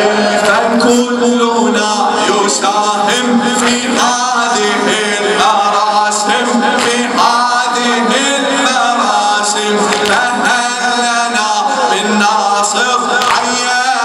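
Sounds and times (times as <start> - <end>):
man chanting through microphone: 0.0 - 14.0.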